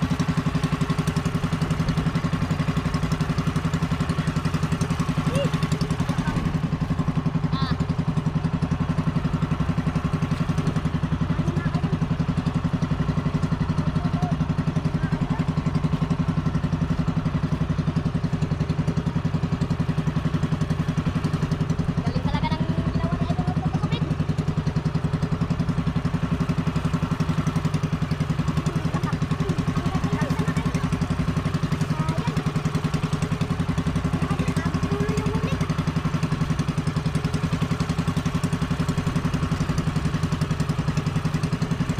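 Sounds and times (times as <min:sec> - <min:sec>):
boat engine puttering: 0:00.0 - 0:41.9.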